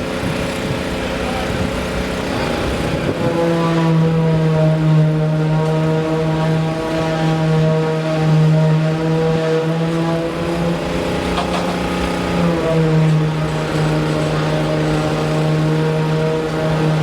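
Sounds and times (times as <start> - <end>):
low machine drone: 0.0 - 17.0.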